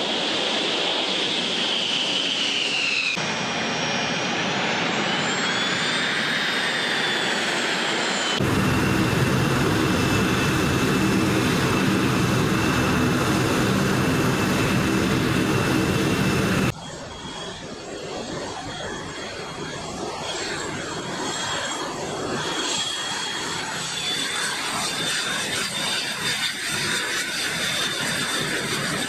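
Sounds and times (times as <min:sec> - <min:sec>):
jet engine roar: 0:00.0 - 0:29.0
jet engine whine: 0:00.0 - 0:29.0.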